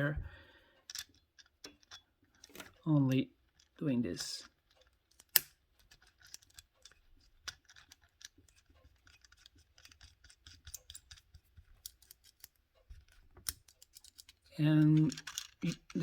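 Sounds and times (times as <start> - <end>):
rotary tool handling clicks: 0.8 - 3.8, 4.4 - 16.0.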